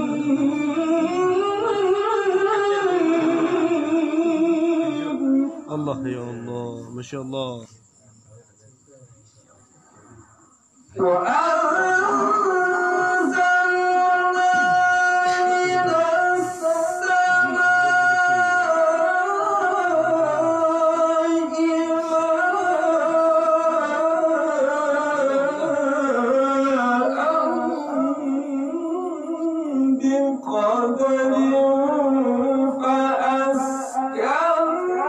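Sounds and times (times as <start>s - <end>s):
man chanting recitation: 0.0s - 10.0s, 10.9s - 35.0s.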